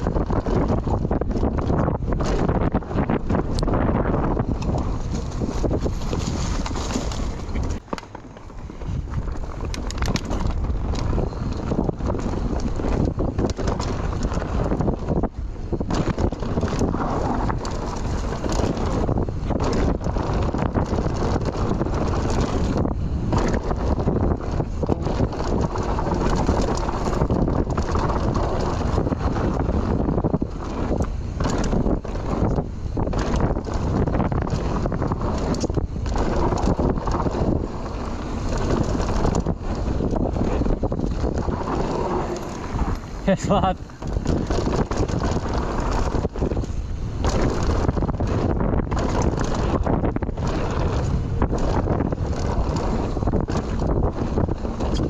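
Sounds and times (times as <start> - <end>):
bike knocks and rattles: 0.0 - 55.0
wind buffeting microphone: 0.0 - 55.0.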